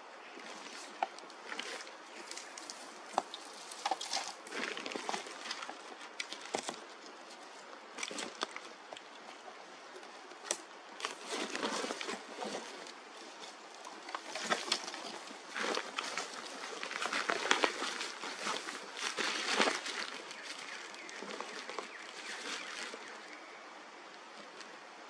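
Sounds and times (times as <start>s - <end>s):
leaves and twigs rustling: 0.0s - 25.0s.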